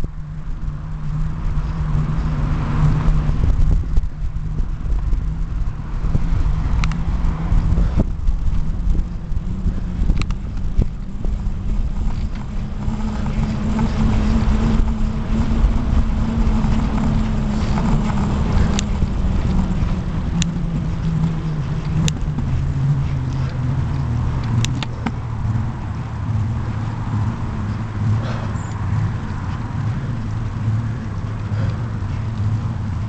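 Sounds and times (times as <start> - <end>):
bicycle rumbling over brick paving: 0.0 - 33.0
low hum: 0.0 - 33.0.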